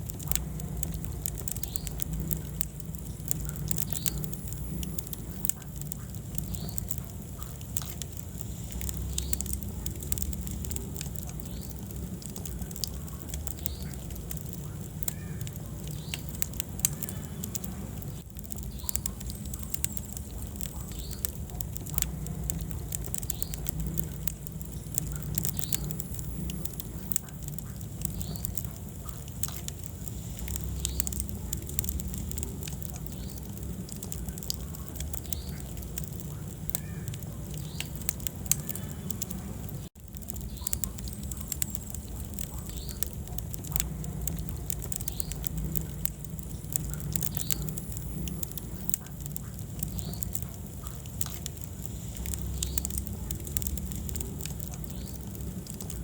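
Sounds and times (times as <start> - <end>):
wood fire burning: 0.0 - 56.0.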